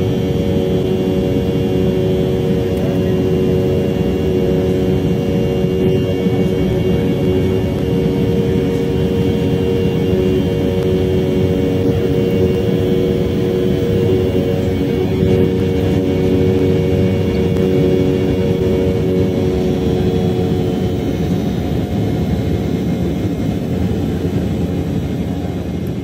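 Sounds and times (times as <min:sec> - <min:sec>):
jet engines in cabin: 0:00.0 - 0:26.0.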